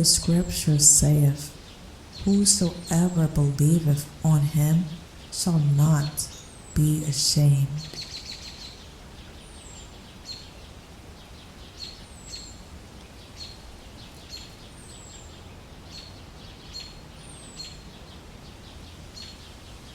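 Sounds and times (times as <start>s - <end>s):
birds chirping: 0.0s - 19.9s
low background noise: 0.0s - 19.9s.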